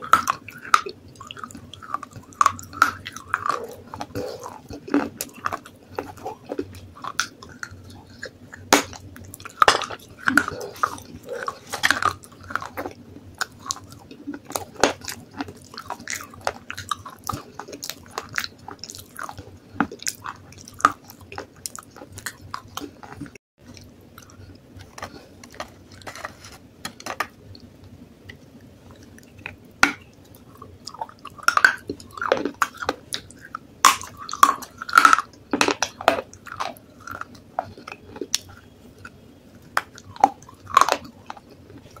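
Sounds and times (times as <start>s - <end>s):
crunching and chewing clay: 0.0s - 42.0s.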